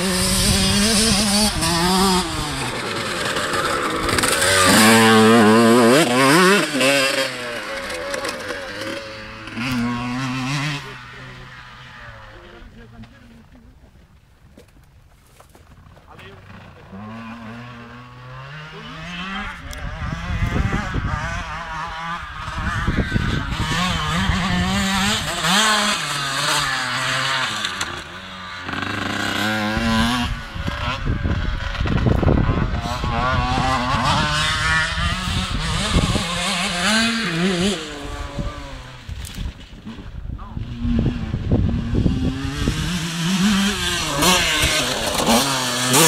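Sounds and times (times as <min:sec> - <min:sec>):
motocross bikes revving: 0:00.0 - 0:46.0.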